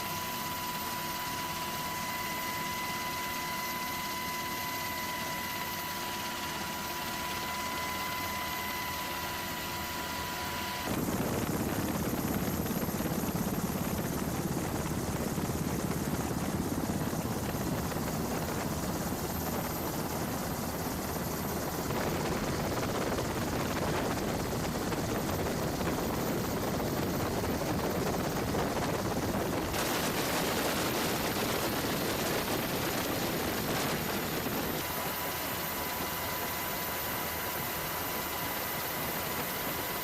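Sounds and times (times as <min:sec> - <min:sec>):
aircraft engine running: 0:00.0 - 0:40.0
high steady whine: 0:00.0 - 0:40.0.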